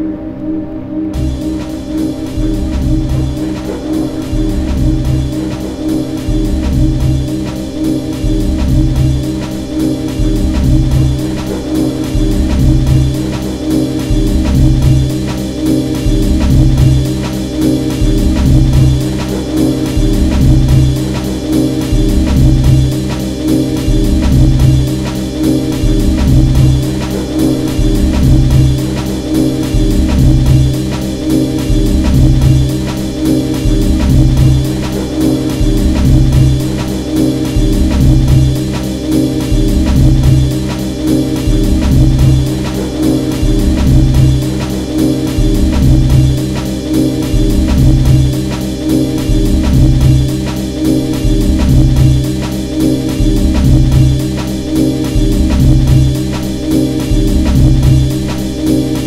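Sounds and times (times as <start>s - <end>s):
background music with heavy bass: 0.0s - 59.0s.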